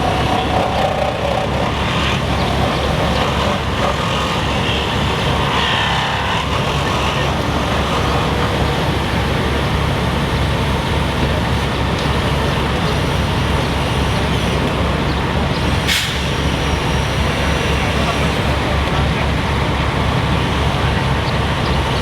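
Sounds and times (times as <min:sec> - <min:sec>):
steady engine noise: 0:00.0 - 0:22.0.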